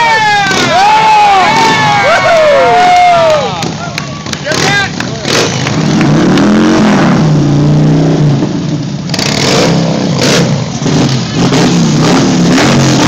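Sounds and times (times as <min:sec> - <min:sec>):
engine revving during burnout: 0:00.1 - 0:03.7, 0:04.4 - 0:13.0.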